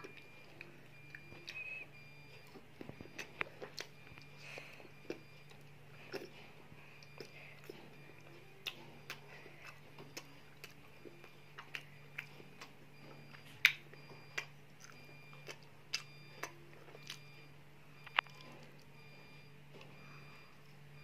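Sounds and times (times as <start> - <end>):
child chewing and biting: 0.0 - 21.0.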